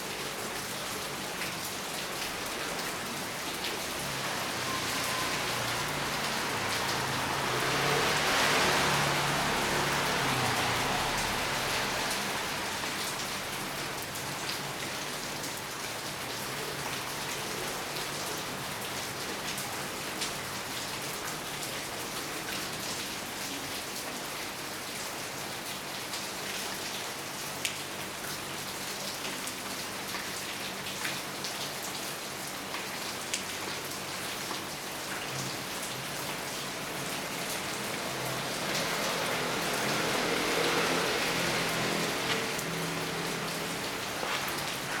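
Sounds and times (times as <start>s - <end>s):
steady rain: 0.0s - 45.0s.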